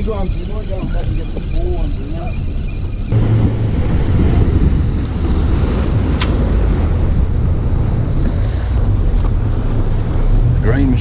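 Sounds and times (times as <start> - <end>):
water rushing along boat hull: 0.0 - 11.0
wind rumble on microphone: 0.0 - 11.0.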